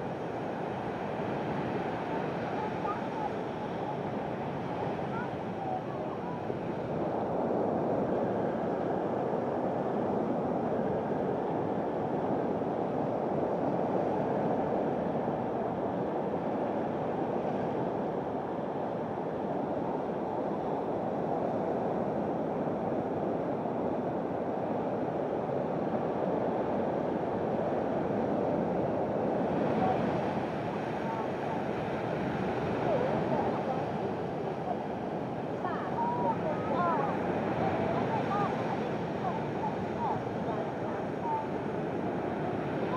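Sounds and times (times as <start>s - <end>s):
surf washing on shingle shore: 0.0s - 20.0s, 24.6s - 42.9s.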